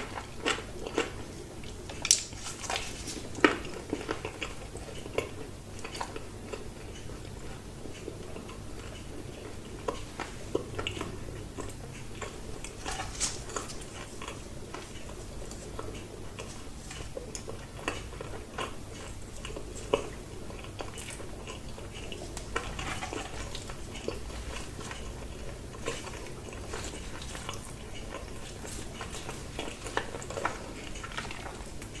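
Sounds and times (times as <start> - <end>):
chewing crunchy food: 0.0 - 32.0.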